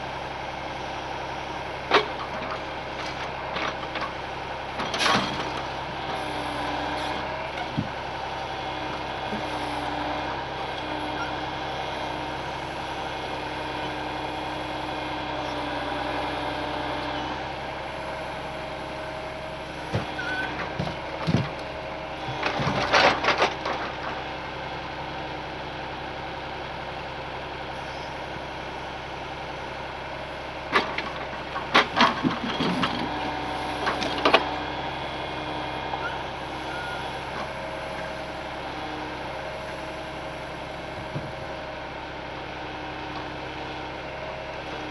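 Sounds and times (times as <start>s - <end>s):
heavy truck engine running: 0.0s - 44.9s.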